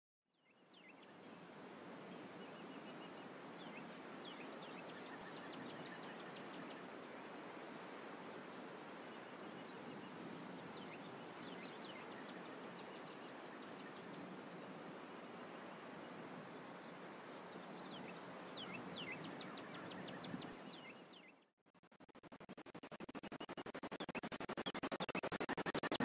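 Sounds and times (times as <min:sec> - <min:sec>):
steady outdoor hiss: 0:00.4 - 0:21.3
small birds chirping: 0:00.4 - 0:21.5.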